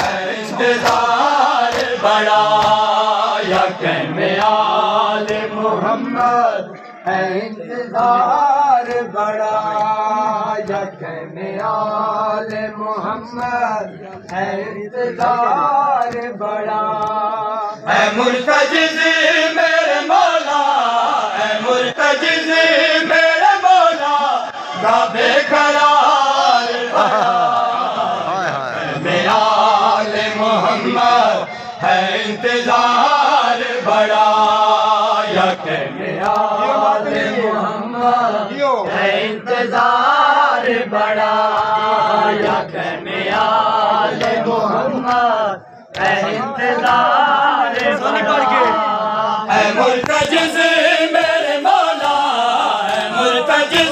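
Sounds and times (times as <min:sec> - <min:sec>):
man chanting a lament: 0:00.2 - 0:42.8, 0:43.5 - 0:53.9.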